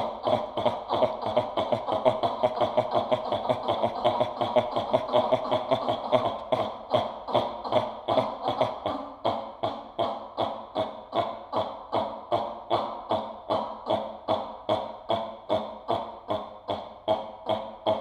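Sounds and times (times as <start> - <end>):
man making staccato vocal pulses: 0.0 - 18.0.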